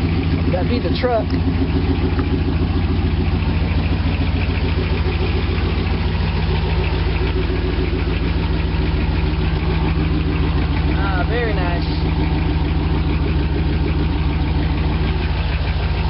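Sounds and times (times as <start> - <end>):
pickup truck engine idling: 0.0 - 16.0.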